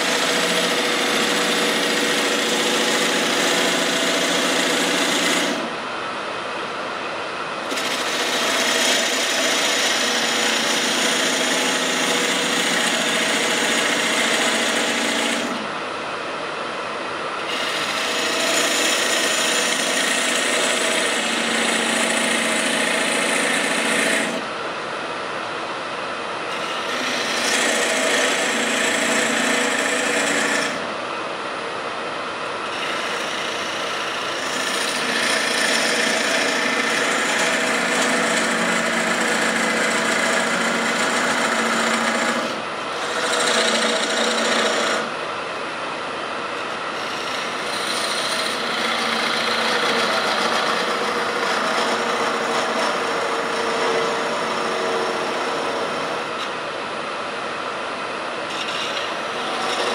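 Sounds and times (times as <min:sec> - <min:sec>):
turning tool scraping wood: 0:00.0 - 0:05.6, 0:07.7 - 0:15.7, 0:17.4 - 0:24.5, 0:26.5 - 0:30.8, 0:32.6 - 0:45.1, 0:47.0 - 0:56.5, 0:58.5 - 0:59.9
wood lathe humming: 0:00.0 - 0:05.7, 0:07.7 - 0:15.7, 0:17.4 - 0:24.5, 0:26.5 - 0:30.9, 0:32.6 - 0:45.1, 0:46.6 - 0:56.5, 0:58.5 - 0:59.9.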